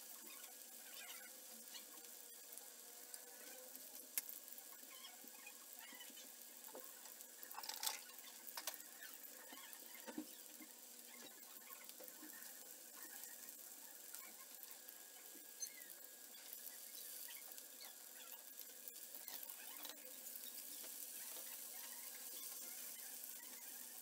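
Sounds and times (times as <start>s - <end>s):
patties sizzling in oil: 0.0s - 24.0s.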